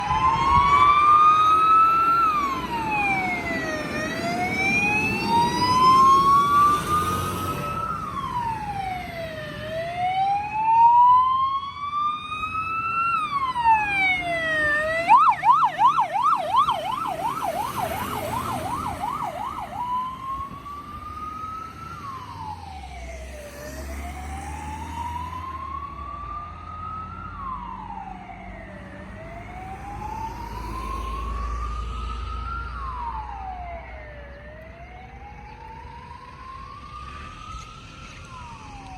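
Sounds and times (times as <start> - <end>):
fire engine siren: 0.0 - 38.9.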